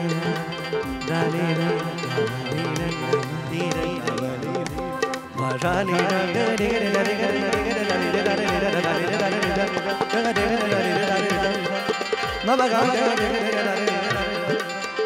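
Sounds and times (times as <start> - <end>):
harmonium: 0.0 - 15.0
tabla drumming: 0.0 - 15.0.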